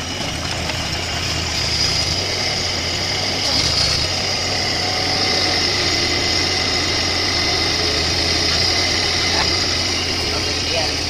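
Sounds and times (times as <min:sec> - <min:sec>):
excavator arm digging: 0:00.0 - 0:10.3
diesel engine running: 0:00.0 - 0:11.0.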